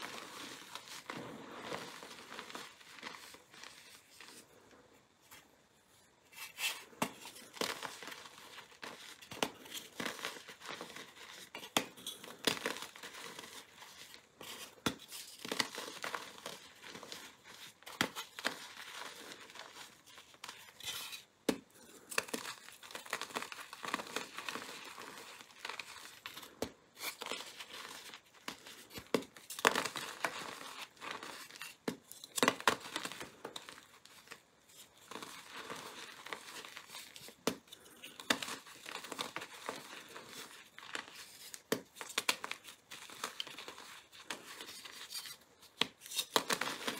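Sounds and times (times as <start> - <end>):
chalk crunching and crumbling by hand: 0.0 - 4.7, 6.3 - 46.9.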